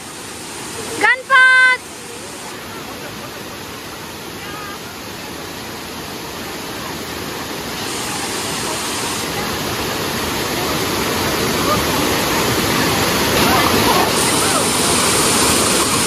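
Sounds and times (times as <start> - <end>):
waterfall rushing over rock: 0.0 - 16.0.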